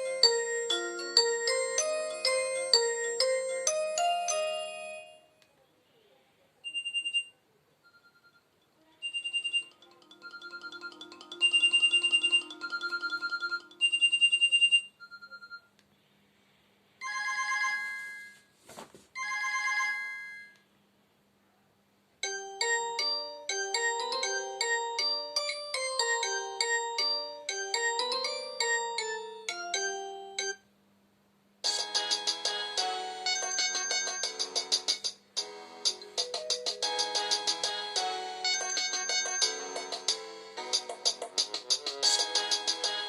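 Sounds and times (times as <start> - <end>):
polyphonic phone ringtone: 0.0 - 5.3, 6.7 - 15.7, 17.0 - 18.5, 19.2 - 20.6, 22.2 - 30.6, 31.6 - 41.3, 42.0 - 43.0.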